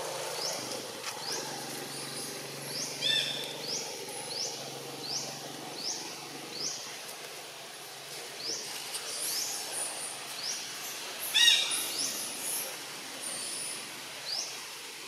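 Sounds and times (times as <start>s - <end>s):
forest background noise: 0.0s - 15.0s.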